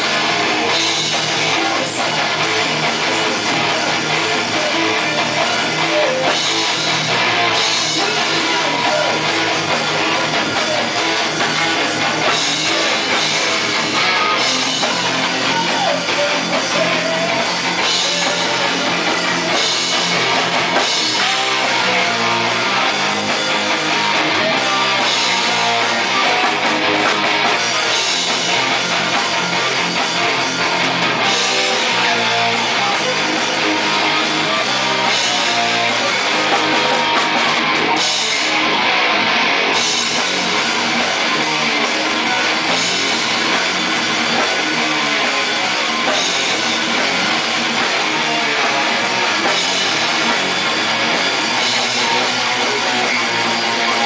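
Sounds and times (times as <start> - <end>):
heavy metal band playing: 0.0 - 54.0.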